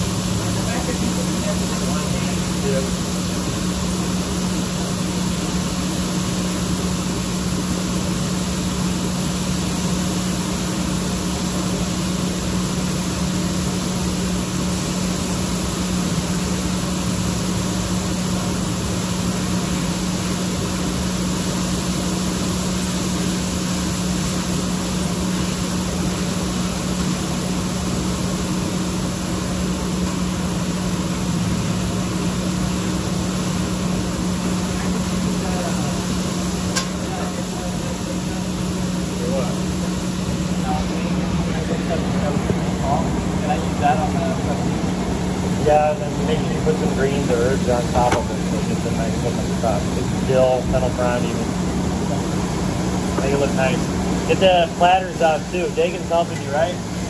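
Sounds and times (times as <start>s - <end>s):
motor or fan drone: 0.0s - 57.0s.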